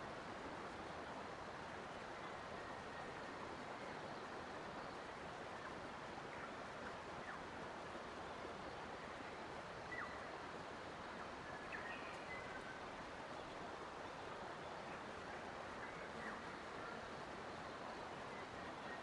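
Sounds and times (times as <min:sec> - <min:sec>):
forest stream rushing: 0:00.0 - 0:19.0.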